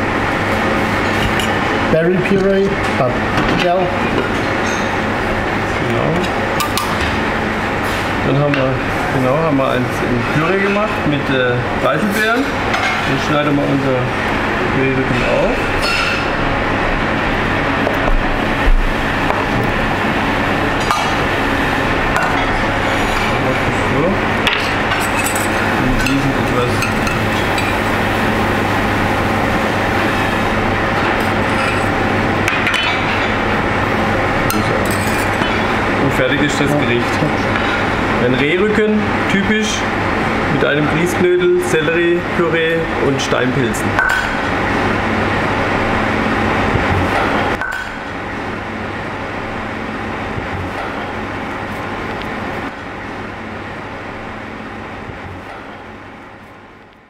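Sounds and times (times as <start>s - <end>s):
low hum and hiss: 0.0s - 57.0s
ventilation roar: 0.0s - 57.0s.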